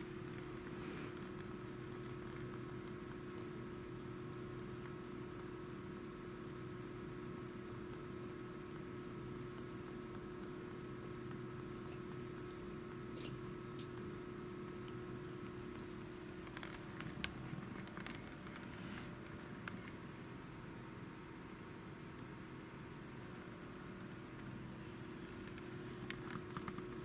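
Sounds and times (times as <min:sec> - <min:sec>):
cat licking with small clicks: 0:00.0 - 0:27.0
steady low hum: 0:00.0 - 0:27.0.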